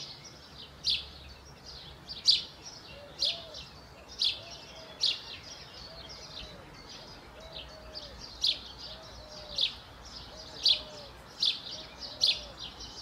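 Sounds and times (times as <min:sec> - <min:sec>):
small bird chirping: 0:00.0 - 0:13.0
lower arched bird call: 0:02.1 - 0:13.0.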